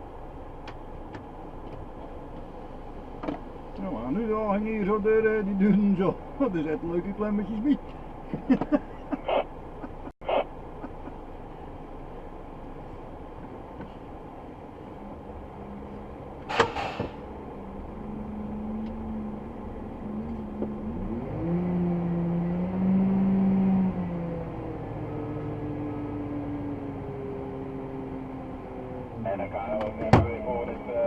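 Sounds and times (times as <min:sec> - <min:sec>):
truck diesel engine under load: 0:00.0 - 0:31.0.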